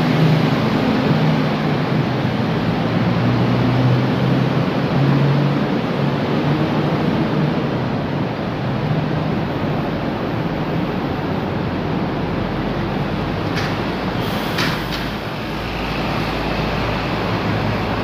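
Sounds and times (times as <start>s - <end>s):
bus diesel engine pulling away: 0.0s - 18.0s
loud traffic noise: 0.0s - 18.0s.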